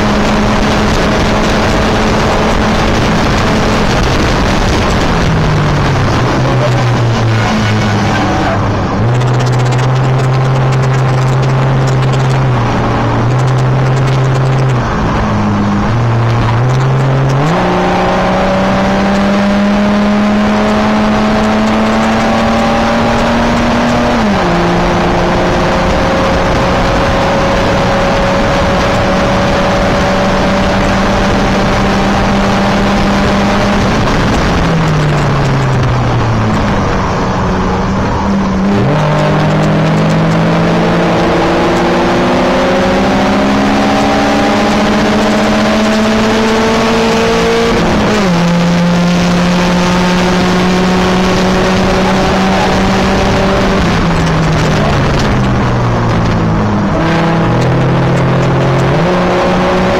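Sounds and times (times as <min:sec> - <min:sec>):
race car engine running hard: 0:00.0 - 0:59.9
road and wind noise: 0:00.0 - 0:59.9.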